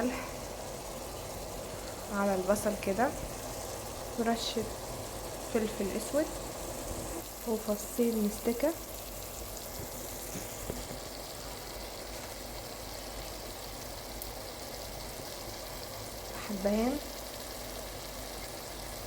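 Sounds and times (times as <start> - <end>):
onion sizzling in a pan: 0.0 - 19.0.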